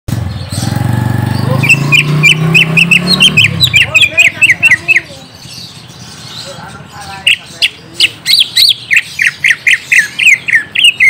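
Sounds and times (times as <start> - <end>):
bird singing sharp chirps: 0.1 - 11.0.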